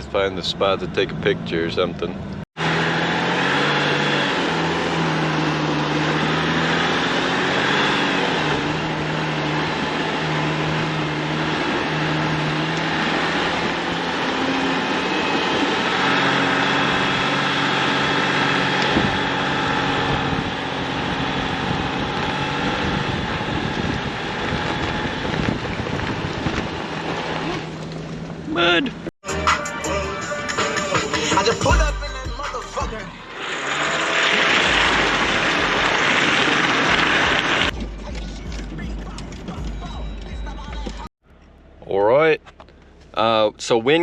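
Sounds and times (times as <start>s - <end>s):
car engine and tyre noise: 0.0s - 29.1s, 30.7s - 44.0s.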